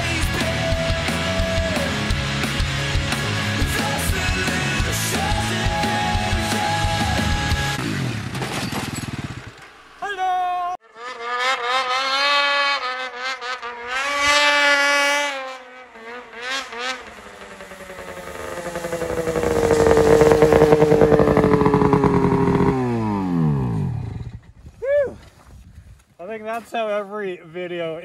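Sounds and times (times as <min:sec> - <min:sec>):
snowmobile engine revving: 0:00.0 - 0:24.5.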